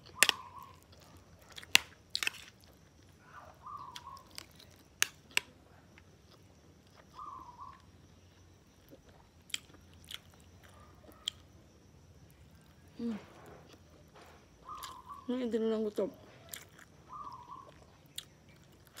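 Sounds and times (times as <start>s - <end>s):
chewing crisp food: 0.0s - 11.6s, 12.3s - 15.2s, 15.9s - 19.0s.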